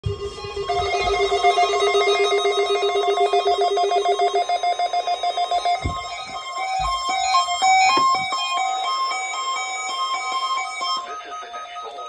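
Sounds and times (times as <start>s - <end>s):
pulsing two-tone electronic alarm: 0.0s - 12.0s.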